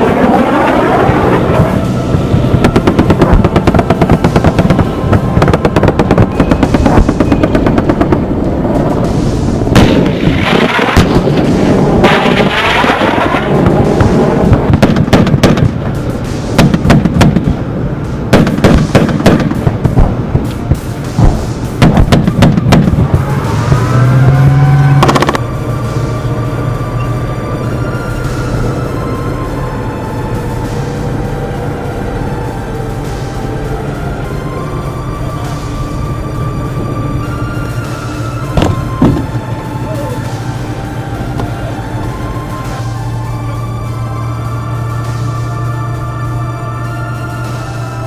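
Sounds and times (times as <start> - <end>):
background music: 0.0 - 48.0.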